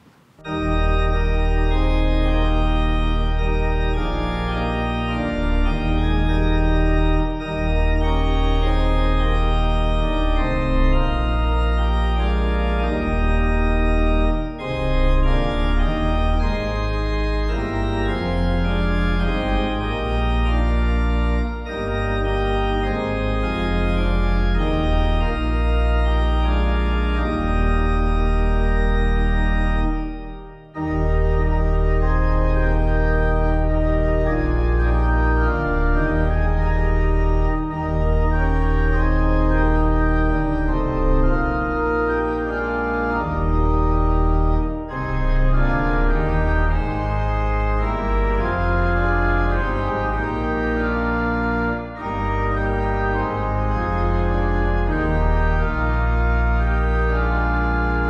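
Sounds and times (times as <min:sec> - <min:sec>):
organ playing full chords: 0:00.0 - 0:58.0.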